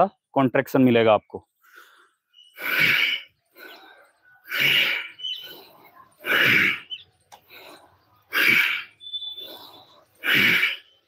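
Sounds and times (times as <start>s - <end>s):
forceful exhalations: 1.6s - 11.0s.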